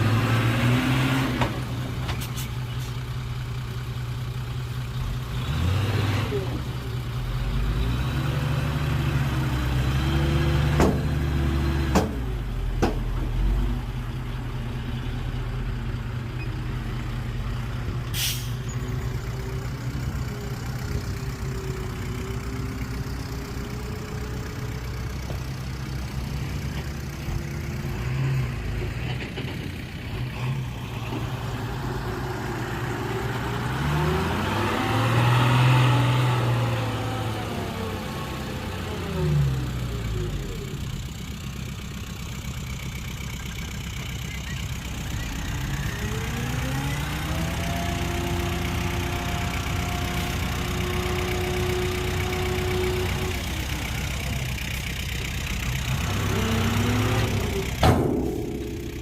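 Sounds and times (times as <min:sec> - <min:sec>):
diesel engine running and revving: 0:00.0 - 0:59.0.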